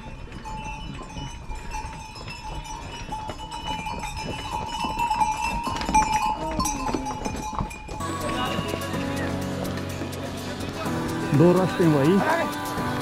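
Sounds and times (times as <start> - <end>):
horse bells jingling: 0.0 - 13.0.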